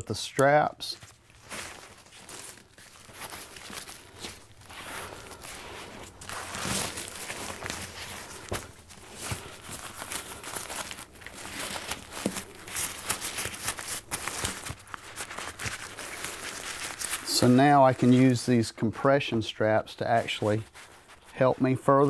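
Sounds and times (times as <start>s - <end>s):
nylon fabric rustling and crinkling: 0.1s - 18.8s, 19.5s - 22.0s.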